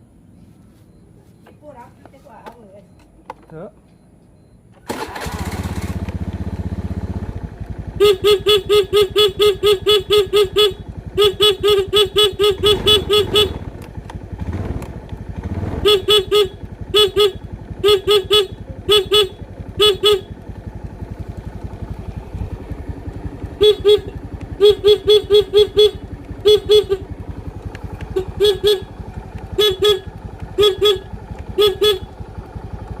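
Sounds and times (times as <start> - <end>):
motorcycle horn pulsed beeps: 4.0 - 5.5, 6.2 - 13.8, 15.4 - 33.0
motorcycle engine running: 4.9 - 33.0.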